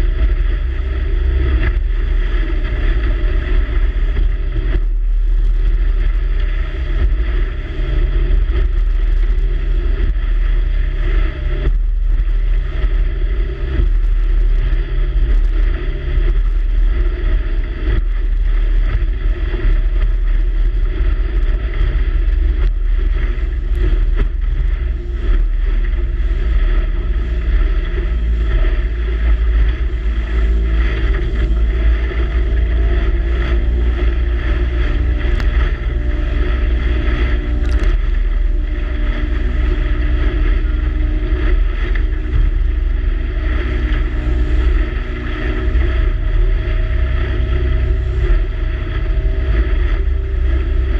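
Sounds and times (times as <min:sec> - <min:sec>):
choppy water slapping: 0:00.0 - 0:50.9
wind rumble on microphone: 0:00.0 - 0:50.9.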